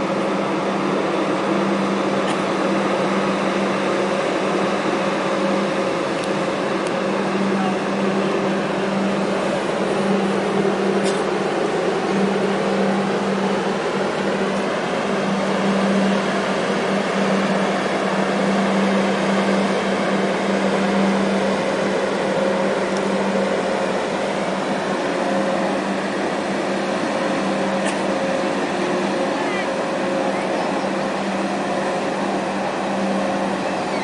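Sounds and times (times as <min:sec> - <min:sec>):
ship machinery drone: 0:00.0 - 0:34.0.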